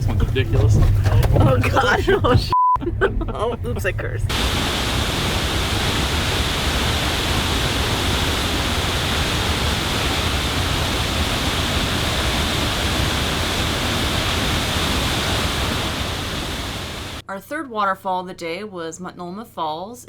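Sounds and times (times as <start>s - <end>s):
road and tyre rumble in car cabin: 0.0s - 17.2s.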